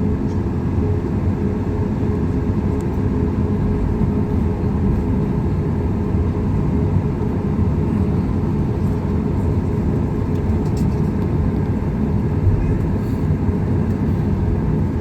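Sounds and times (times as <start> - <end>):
aircraft cabin rumble: 0.1 - 15.0.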